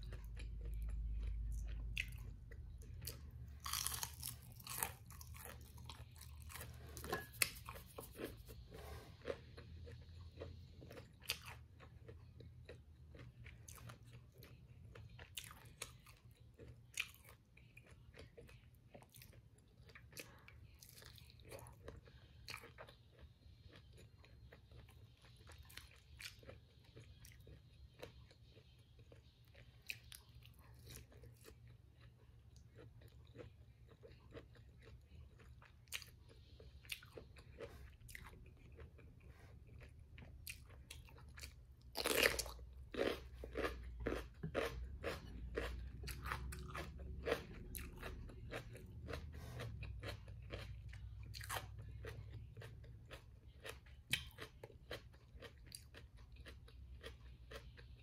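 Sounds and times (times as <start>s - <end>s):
crunchy food being chewed: 0.0s - 58.0s.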